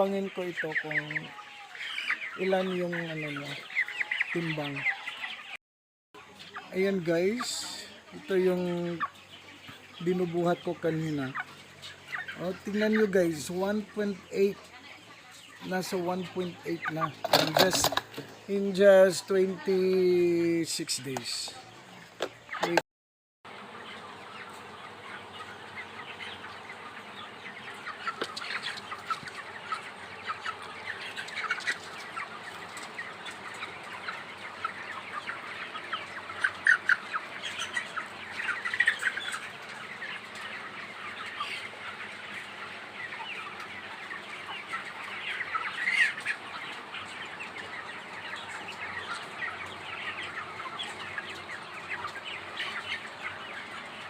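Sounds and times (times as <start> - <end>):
chickens calling: 0.0 - 5.6, 6.2 - 22.8, 23.5 - 54.0.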